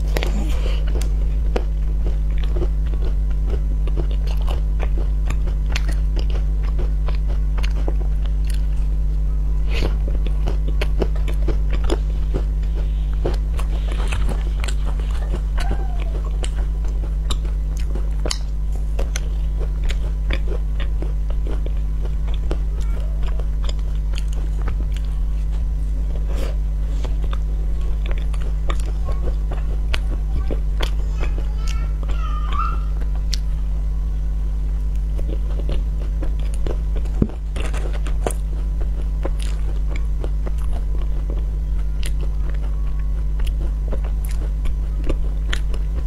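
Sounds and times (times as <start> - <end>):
crunchy biting and chewing: 0.0 - 33.8, 34.6 - 46.0
low hum: 0.0 - 46.0.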